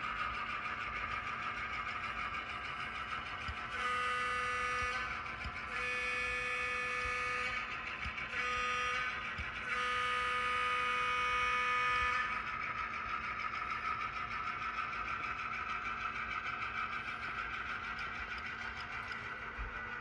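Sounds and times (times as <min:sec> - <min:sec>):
model train rolling on track: 0:00.0 - 0:20.0
steady whining tones: 0:00.0 - 0:20.0.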